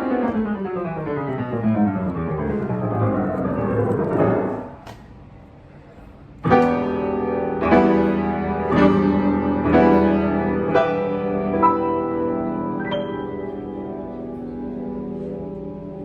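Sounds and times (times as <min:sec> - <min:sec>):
grand piano chords: 0:00.0 - 0:05.0, 0:06.4 - 0:16.0.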